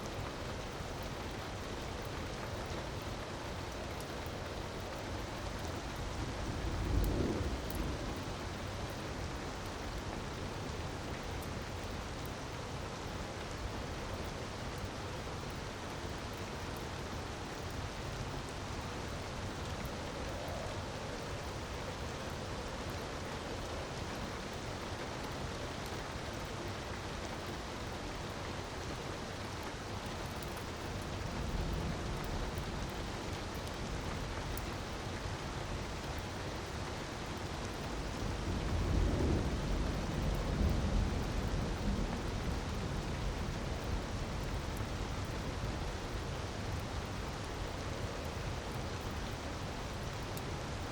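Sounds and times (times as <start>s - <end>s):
crackling fire: 0.0s - 50.9s
rushing water: 0.0s - 50.9s.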